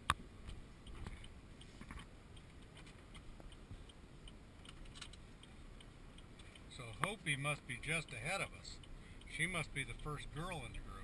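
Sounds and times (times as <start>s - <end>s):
faint even ticking: 0.0s - 11.0s
low road rumble: 0.0s - 11.0s.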